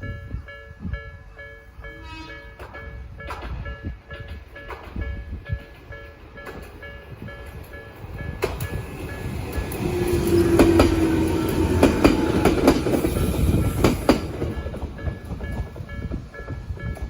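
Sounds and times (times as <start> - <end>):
level crossing warning bell: 0.0 - 12.9, 14.5 - 17.0
train hum: 0.0 - 17.0
train wheels clacking over rail joints: 2.6 - 17.0.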